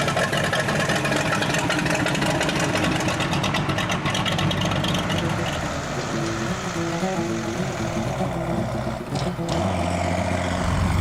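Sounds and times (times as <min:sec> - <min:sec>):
vehicle engine running loudly: 0:00.0 - 0:11.0.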